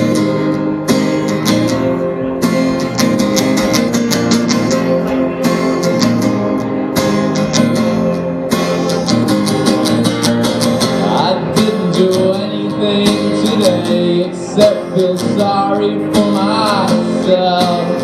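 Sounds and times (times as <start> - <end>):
guitar strumming: 0.0 - 18.0.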